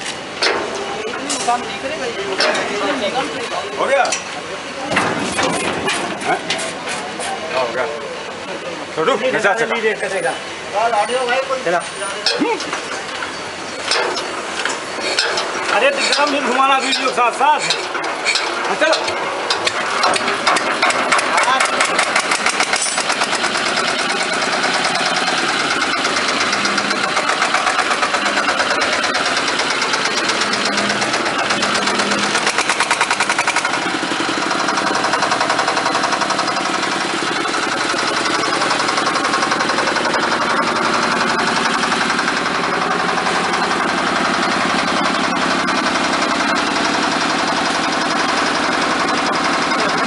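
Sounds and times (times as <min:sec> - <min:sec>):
diesel concrete mixer engine knocking: 0:00.0 - 0:50.0.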